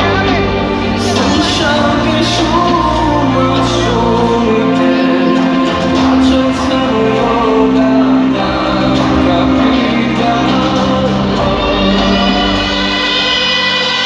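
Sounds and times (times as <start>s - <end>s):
live concert music with singing: 0.0s - 14.0s.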